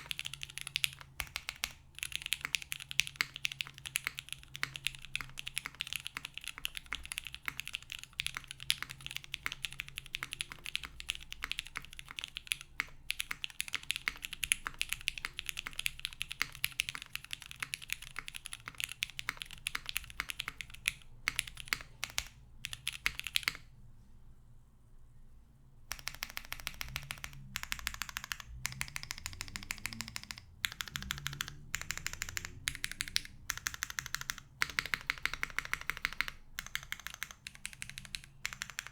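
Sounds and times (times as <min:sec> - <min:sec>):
mechanical keyboard typing: 0:00.0 - 0:23.7, 0:25.9 - 0:38.9.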